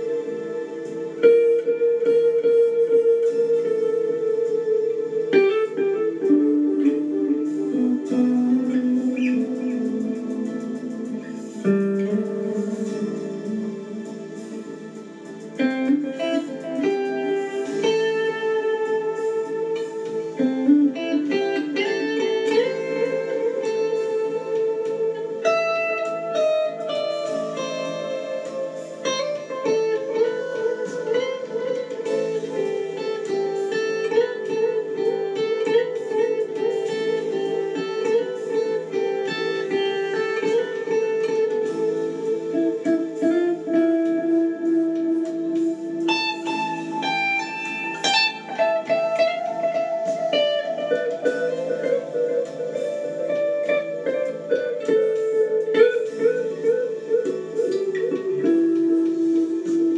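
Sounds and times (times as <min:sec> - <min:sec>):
ambient electric guitar: 0:00.0 - 0:59.9.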